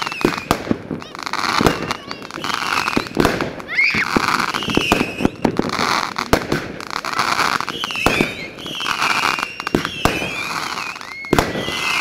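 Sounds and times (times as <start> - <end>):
firework bangs: 0.0 - 12.0
whistling firework shots: 0.0 - 12.0.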